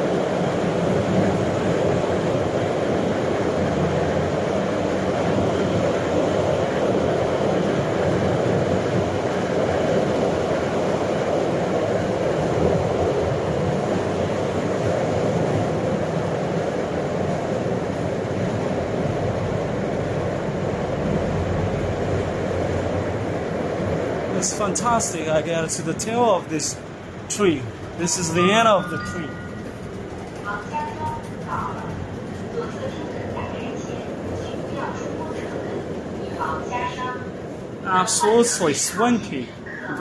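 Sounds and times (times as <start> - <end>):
metro train running noise: 0.0 - 40.0.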